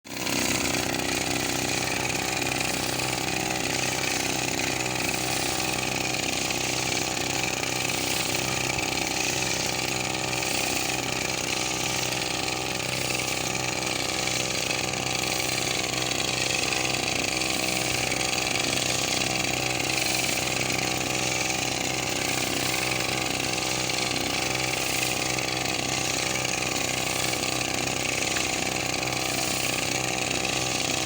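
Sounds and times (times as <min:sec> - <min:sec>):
small engine running steadily: 0:00.0 - 0:31.0.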